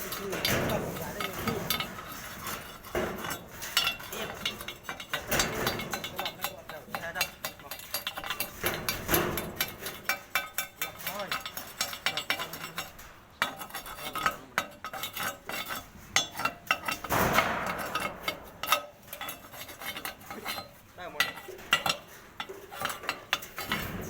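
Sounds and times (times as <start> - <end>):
metal tools clinking: 0.0 - 24.0.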